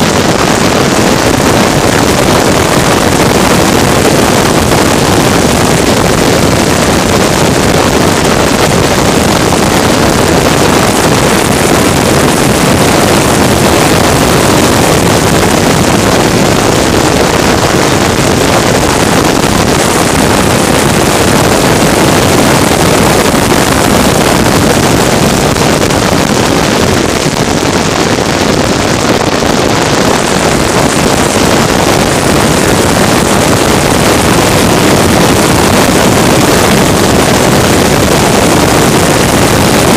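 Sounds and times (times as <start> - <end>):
racing engine at full speed: 0.0 - 39.9
wind noise on microphone: 0.0 - 39.9.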